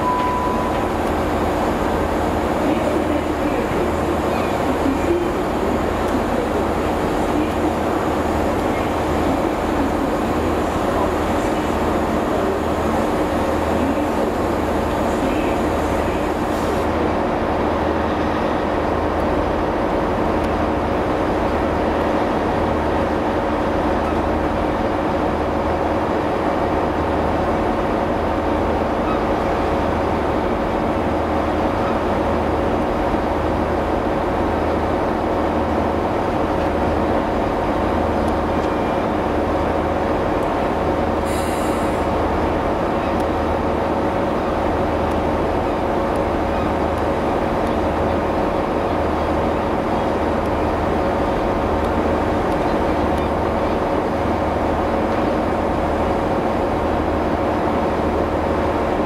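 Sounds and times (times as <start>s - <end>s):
train throbbing low hum: 0.0s - 59.0s.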